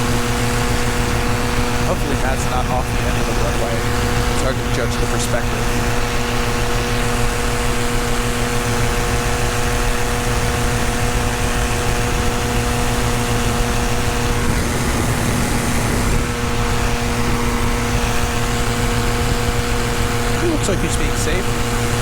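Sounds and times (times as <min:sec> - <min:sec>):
paramotor engine drone: 0:00.0 - 0:22.0
wind noise: 0:00.0 - 0:22.0.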